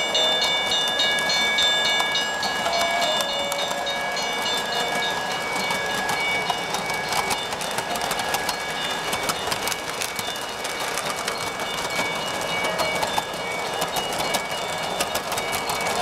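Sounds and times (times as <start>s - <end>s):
high whine of train: 0.0s - 16.0s
model train wheels clicking: 0.0s - 16.0s.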